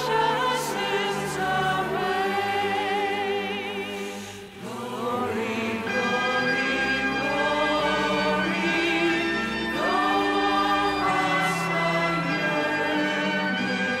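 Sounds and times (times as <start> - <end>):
choral singing: 0.0 - 14.0.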